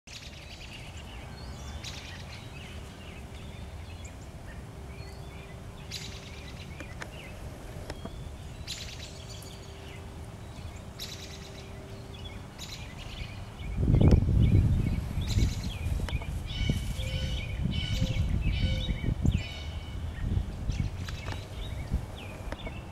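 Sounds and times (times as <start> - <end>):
wild birds chirping and trilling: 0.1 - 22.9.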